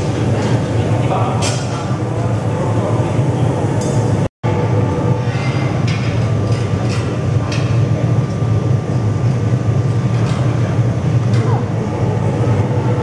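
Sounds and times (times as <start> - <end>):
furnace roaring: 0.0 - 13.0.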